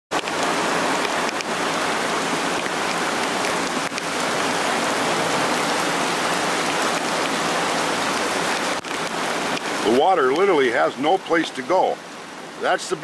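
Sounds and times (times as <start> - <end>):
heavy rain: 0.1 - 13.0.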